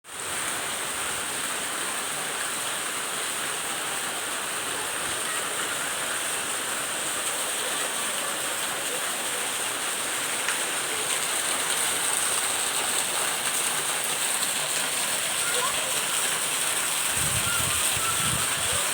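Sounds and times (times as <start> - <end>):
rain falling: 0.0 - 18.9.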